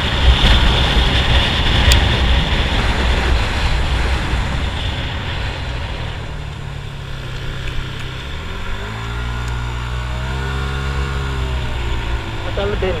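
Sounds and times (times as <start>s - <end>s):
motor scooter engine: 0.0s - 13.0s
wind on microphone: 0.0s - 13.0s.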